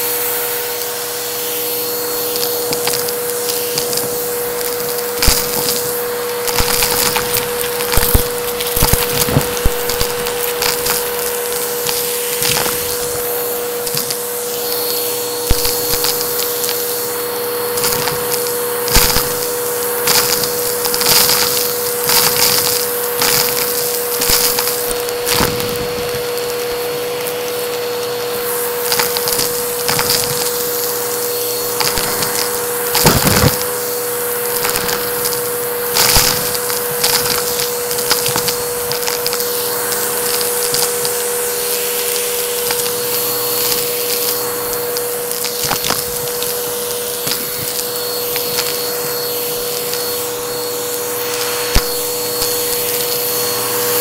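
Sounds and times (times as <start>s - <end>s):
vacuum cleaner motor whine: 0.0s - 54.0s
debris crackling through vacuum: 2.3s - 54.0s.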